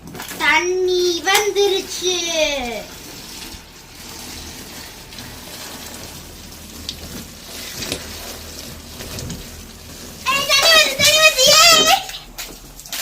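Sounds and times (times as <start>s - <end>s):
water splashing into a pool: 0.0s - 13.0s.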